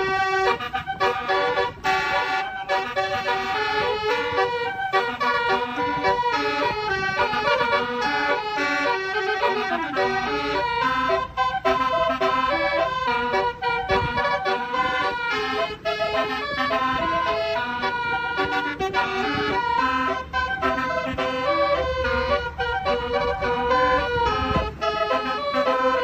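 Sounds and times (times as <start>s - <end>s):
bus horn playing fast melody: 0.0s - 26.0s.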